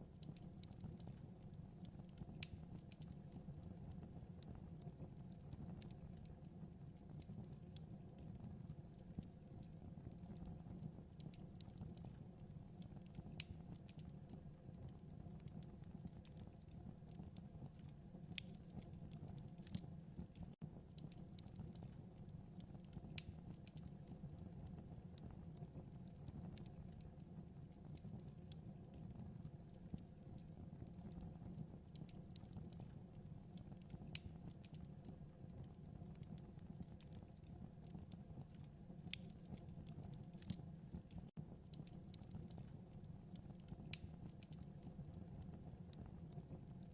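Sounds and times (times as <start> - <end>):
fire crackles and pops: 0.0 - 46.9
fire rumbling in fireplace: 0.0 - 46.9.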